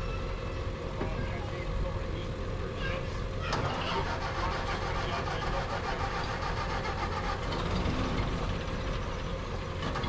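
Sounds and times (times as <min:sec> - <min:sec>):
truck engines idling: 0:00.0 - 0:10.0.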